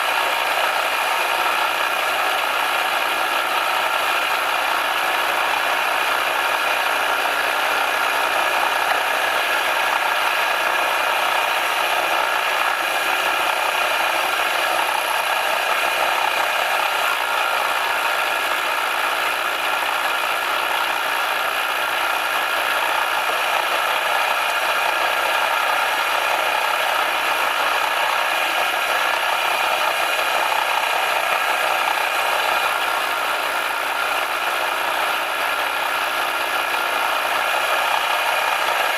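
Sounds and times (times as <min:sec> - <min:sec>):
machine tool rattling and whirring: 0:00.0 - 0:38.9.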